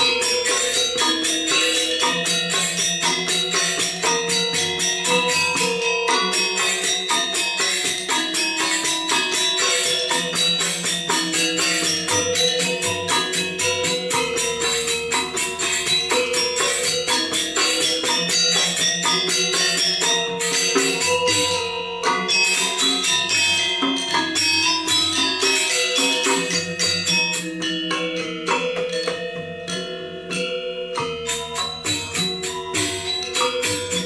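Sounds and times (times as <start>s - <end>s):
gamelan metallophones: 0.0s - 34.0s
jingling cymbals: 0.0s - 34.0s.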